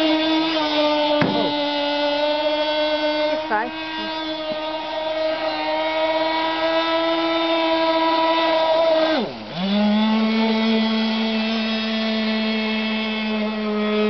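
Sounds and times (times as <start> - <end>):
model boat engine running: 0.0 - 14.0.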